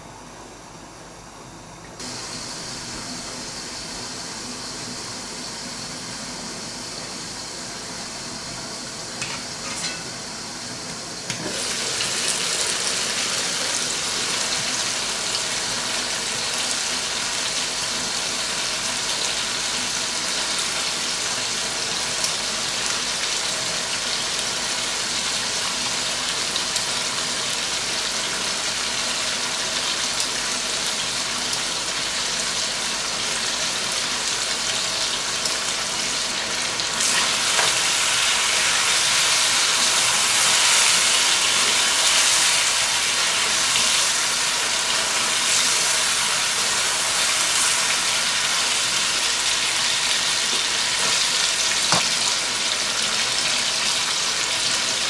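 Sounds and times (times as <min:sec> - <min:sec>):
chicken and tomatoes sizzling: 0:02.0 - 0:55.0.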